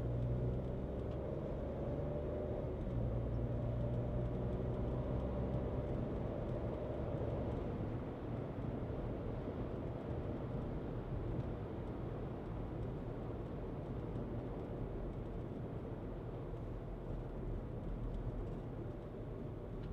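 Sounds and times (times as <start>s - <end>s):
road and tyre noise: 0.0s - 19.9s.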